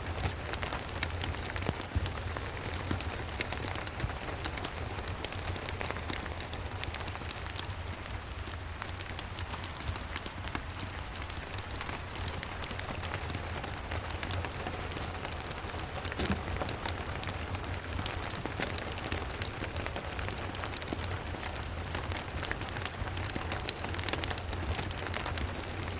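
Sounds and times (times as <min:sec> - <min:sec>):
steady rain: 0:00.0 - 0:25.9
wood fire crackling: 0:00.0 - 0:25.9.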